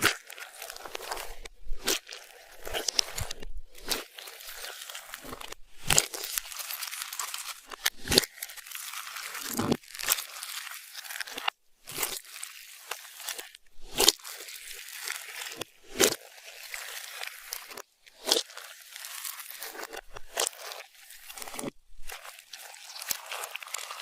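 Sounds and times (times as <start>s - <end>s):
slime squished by hand: 0.0s - 24.0s.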